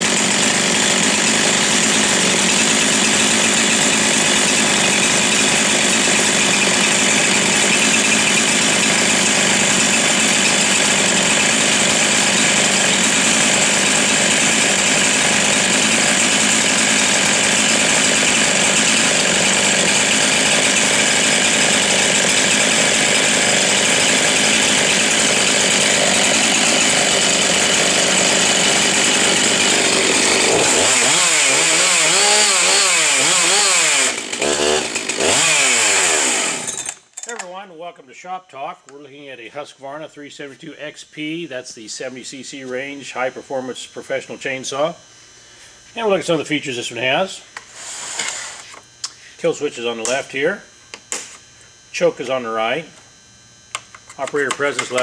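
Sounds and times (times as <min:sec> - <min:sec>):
chainsaw engine running: 0:00.0 - 0:37.4, 0:45.8 - 0:55.0.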